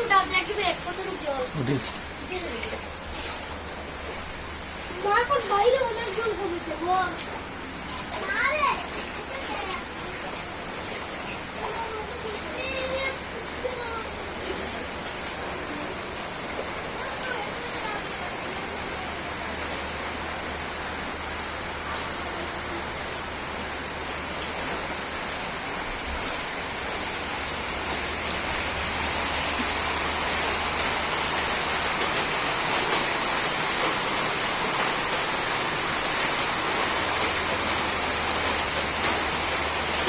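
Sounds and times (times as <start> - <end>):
rushing water hiss: 0.0 - 40.0.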